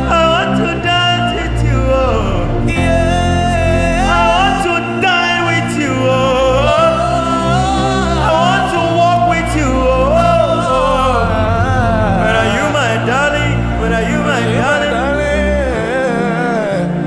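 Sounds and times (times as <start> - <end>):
high solo voice singing: 0.0 - 17.0
sustained low chords: 0.0 - 17.0.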